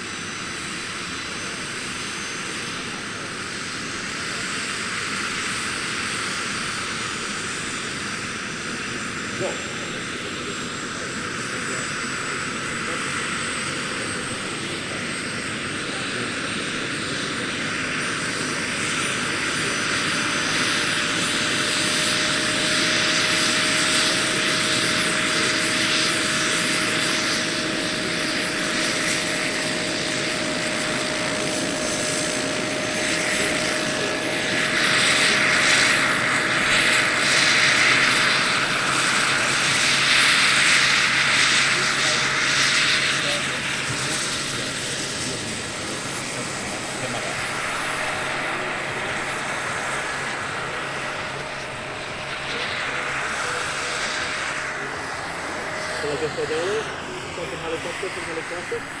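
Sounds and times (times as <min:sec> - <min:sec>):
gas turbine whine: 0:00.0 - 0:59.0
helicopter rotor noise: 0:00.0 - 0:59.0.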